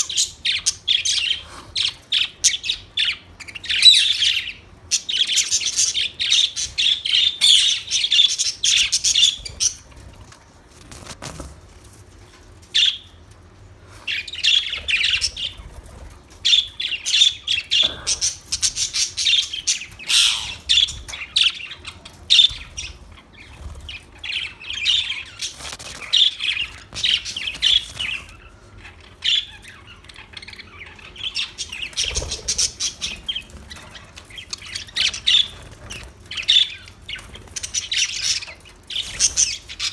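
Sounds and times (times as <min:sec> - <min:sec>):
budgerigars chirping and chattering: 0:00.0 - 0:10.3, 0:12.7 - 0:13.2, 0:14.0 - 0:39.9.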